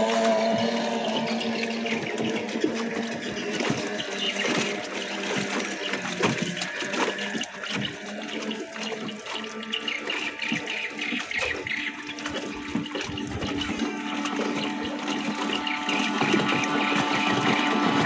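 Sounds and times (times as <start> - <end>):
outboard motors humming: 0.0 - 18.0
water rushing and splashing: 0.0 - 18.0.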